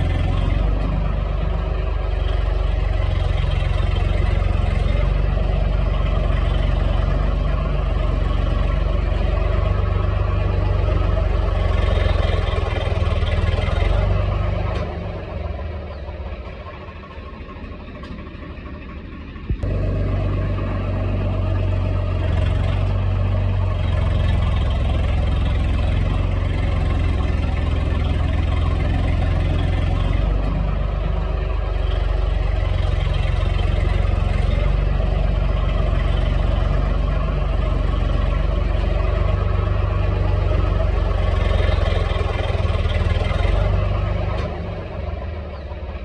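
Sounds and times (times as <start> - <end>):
tractor engine rumbling: 0.0 - 46.0.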